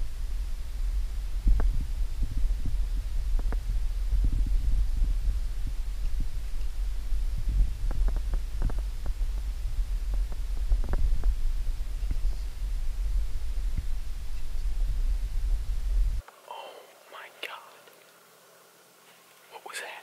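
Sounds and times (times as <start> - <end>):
wind buffeting microphone: 0.0 - 16.2
faint crackles and snaps: 0.0 - 16.4, 17.2 - 18.2.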